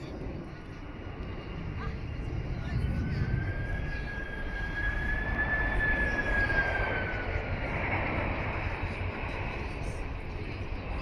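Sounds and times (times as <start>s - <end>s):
distant engine drone: 0.0s - 11.0s
low outdoor rumble: 0.0s - 11.0s.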